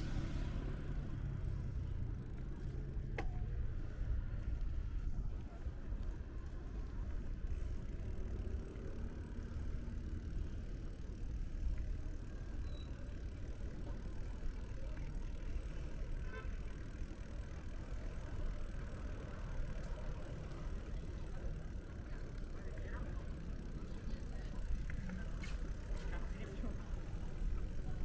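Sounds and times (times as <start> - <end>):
low rumble of traffic: 0.0 - 28.0.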